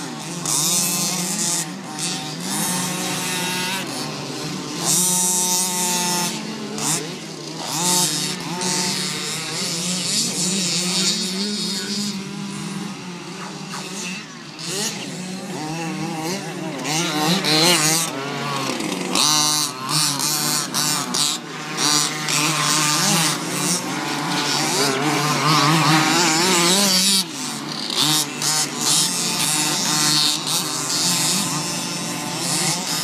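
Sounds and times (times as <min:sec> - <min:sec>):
toy car motor whining: 0:00.0 - 0:33.0.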